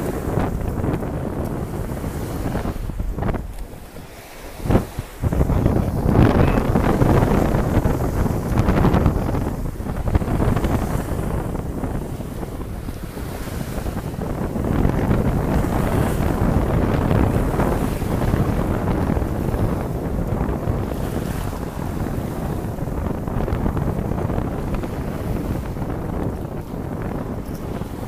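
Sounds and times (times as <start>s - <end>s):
small waves washing in: 0.0s - 28.0s
wind buffeting microphone: 0.0s - 28.0s.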